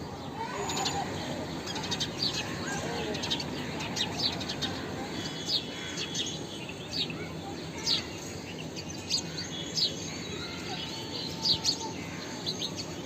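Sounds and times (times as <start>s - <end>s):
low background noise: 0.0s - 13.0s
sparrows chirping: 0.0s - 13.0s.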